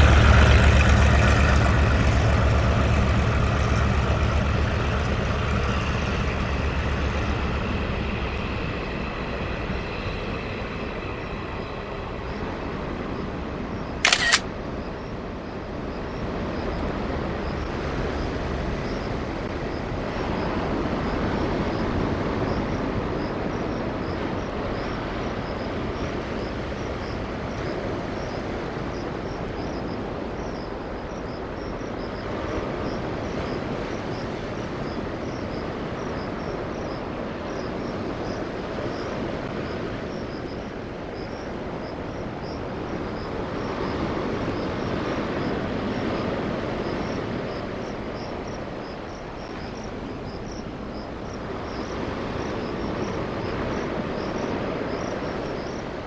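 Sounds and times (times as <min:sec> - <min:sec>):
insects chirping: 0:00.0 - 0:56.0
train running: 0:00.0 - 0:56.0.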